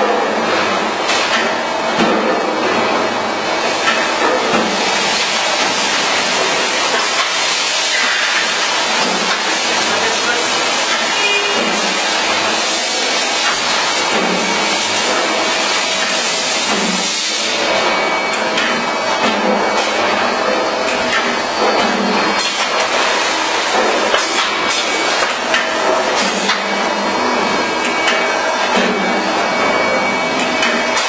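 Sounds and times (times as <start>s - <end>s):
cutting machine running: 0.0s - 31.0s.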